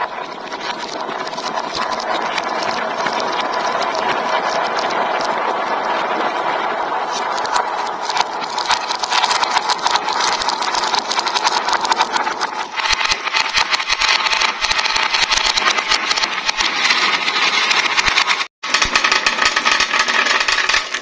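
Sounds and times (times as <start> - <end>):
marbles rattling down plastic tracks: 0.0 - 21.0.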